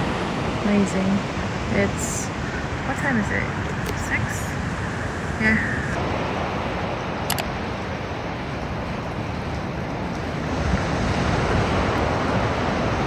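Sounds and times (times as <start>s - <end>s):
ocean surf washing: 0.0s - 13.0s
wind on microphone: 0.0s - 13.0s.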